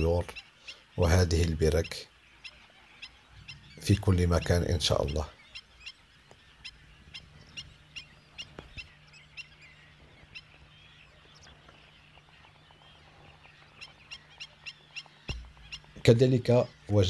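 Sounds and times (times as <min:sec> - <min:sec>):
faint birds chirping: 0:00.0 - 0:17.0
low steady hum: 0:00.0 - 0:17.0.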